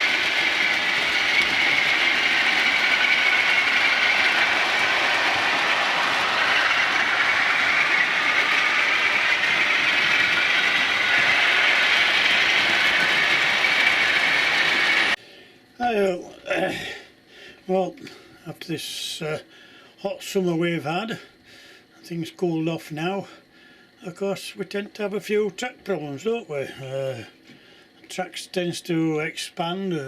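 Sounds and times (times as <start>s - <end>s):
model train running on track: 0.0s - 15.2s, 17.7s - 27.4s, 28.0s - 30.0s.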